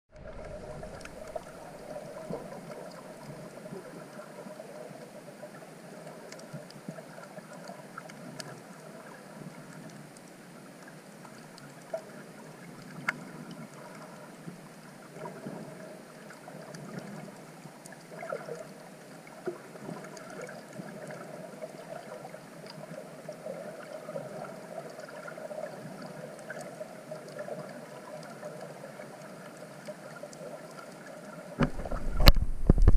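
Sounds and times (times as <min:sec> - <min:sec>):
muffled underwater water noise: 0:00.1 - 0:32.9.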